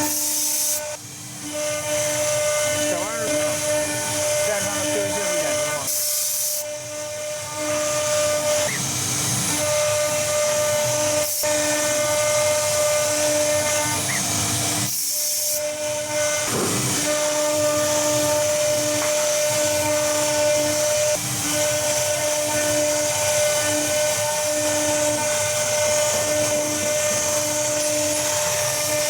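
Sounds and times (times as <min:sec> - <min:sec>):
router spindle whining: 0:00.0 - 0:29.0.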